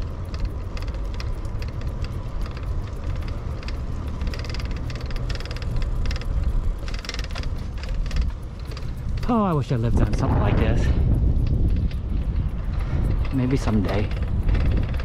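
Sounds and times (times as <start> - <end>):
bicycle freewheel ticking: 0.0 - 15.0
low riding rumble: 0.0 - 15.0.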